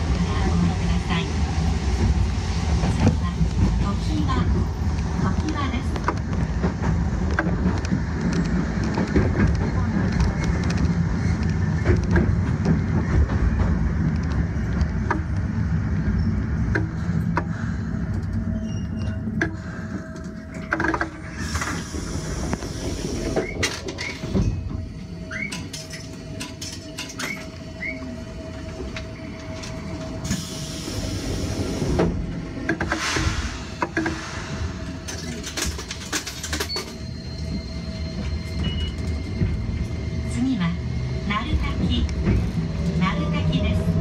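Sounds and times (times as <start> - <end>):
tram wheels and motors rumbling: 0.0 - 44.0.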